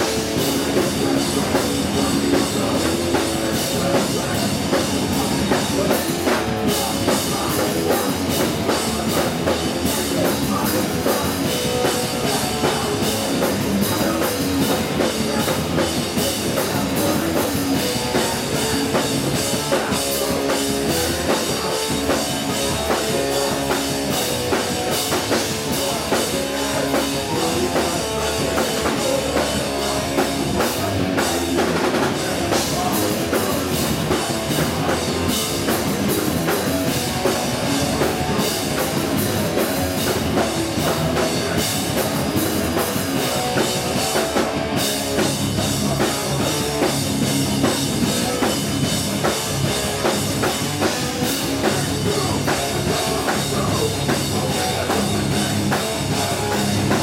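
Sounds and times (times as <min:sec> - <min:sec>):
distorted electric guitars: 0:00.0 - 0:57.0
pounding drum kit: 0:00.0 - 0:57.0.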